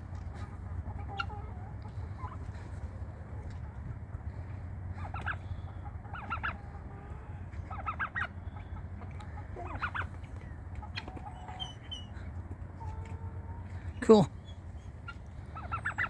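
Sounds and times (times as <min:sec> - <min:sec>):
chickens clucking: 0:00.0 - 0:16.0
steady low hum: 0:00.0 - 0:16.0.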